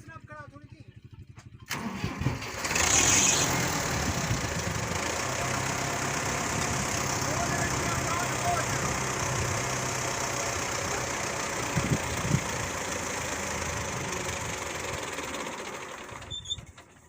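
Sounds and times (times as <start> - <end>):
engine idling with low hum: 0.0 - 2.5, 3.3 - 17.0.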